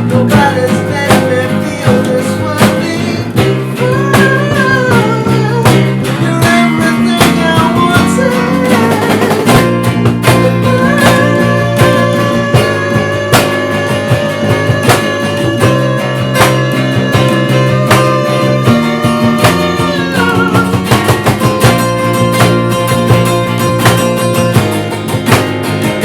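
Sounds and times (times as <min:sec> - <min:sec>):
instrumental band music with guitars: 0:00.0 - 0:26.0.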